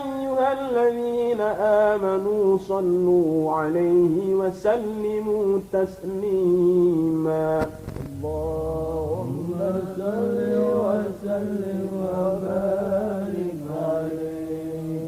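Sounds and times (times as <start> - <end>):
man chanting melismatic recitation: 0.0 - 15.0.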